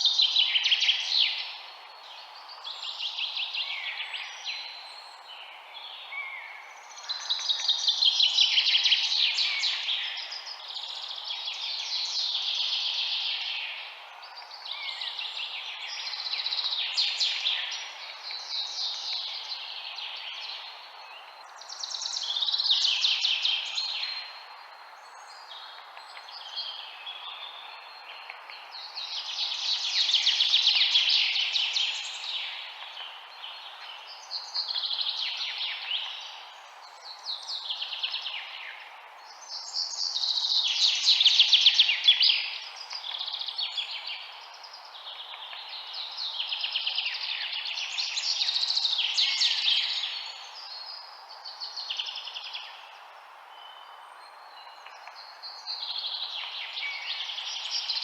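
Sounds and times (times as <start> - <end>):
songbirds chirping and trilling: 0.0 - 58.0
steady background hiss: 0.0 - 58.0.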